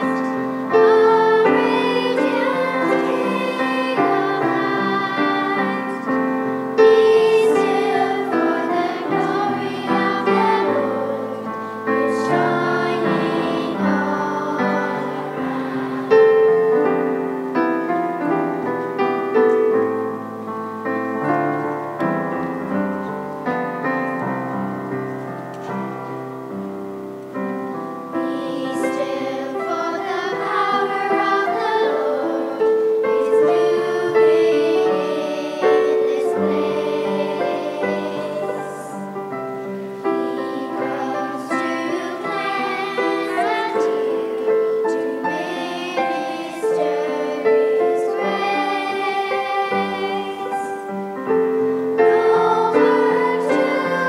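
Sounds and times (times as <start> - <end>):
choir singing a hymn: 0.0 - 25.1, 27.4 - 54.0
keyboard accompaniment: 0.0 - 54.0.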